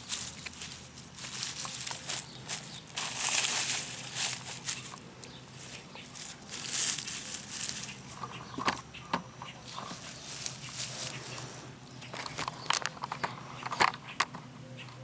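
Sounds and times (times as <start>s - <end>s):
rustling and crunching: 0.0s - 14.0s.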